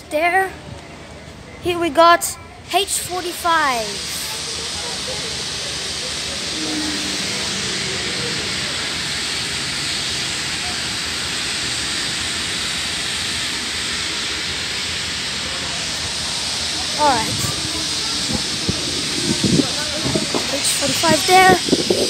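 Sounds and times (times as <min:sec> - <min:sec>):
steam locomotive venting steam: 0:00.0 - 0:22.0.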